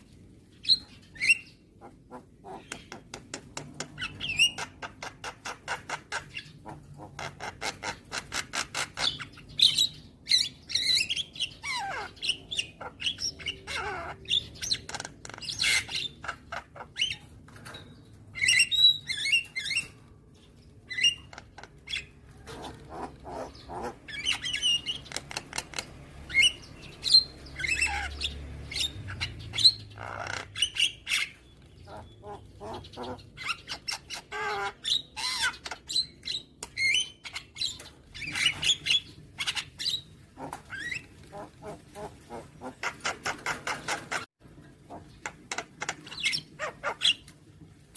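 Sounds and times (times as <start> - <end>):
myna bird singing: 0.0 - 44.3, 44.9 - 47.3.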